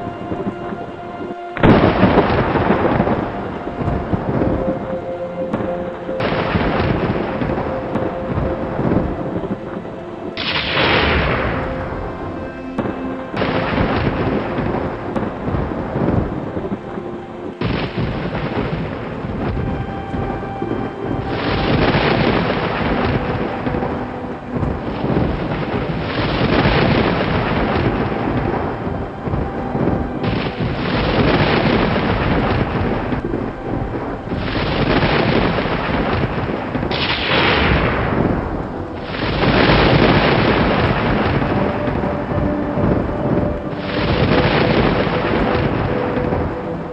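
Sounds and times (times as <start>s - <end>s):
rain: 0.0s - 46.9s
rolling thunder: 0.0s - 46.9s.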